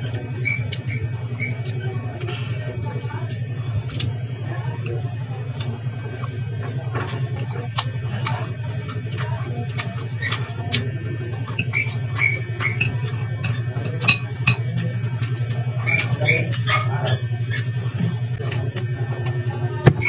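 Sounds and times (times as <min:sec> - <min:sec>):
chewing and lip smacking: 0:00.0 - 0:20.0
low hum: 0:00.0 - 0:20.0.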